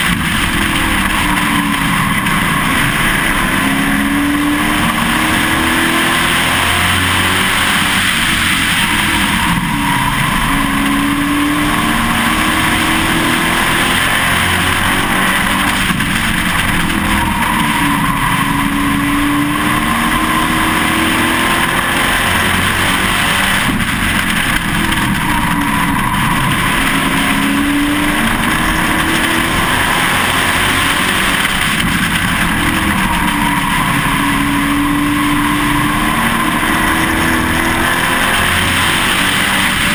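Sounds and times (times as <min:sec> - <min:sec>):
race truck engine revving: 0:00.0 - 0:39.9
wind and road noise: 0:00.0 - 0:39.9.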